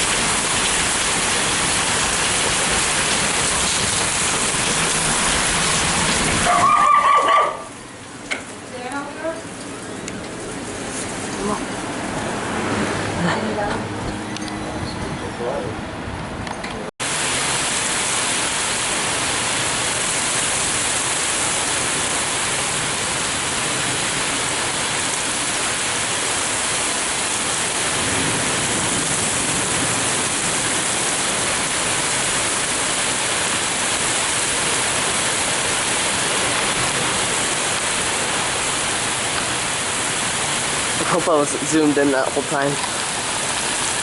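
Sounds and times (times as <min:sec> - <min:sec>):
heavy rain pouring: 0:00.0 - 0:13.7, 0:17.0 - 0:44.0.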